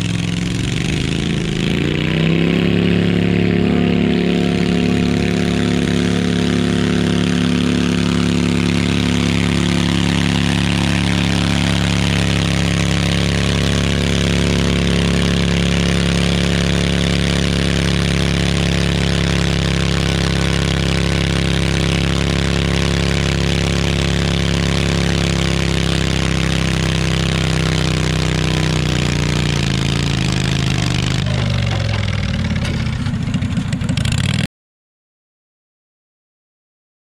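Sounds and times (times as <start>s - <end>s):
tractor engine running under load: 0.0s - 34.5s.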